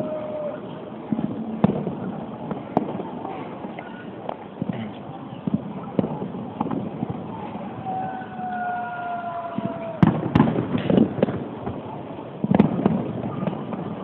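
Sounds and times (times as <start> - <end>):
firework bangs and cracks: 1.0 - 14.0.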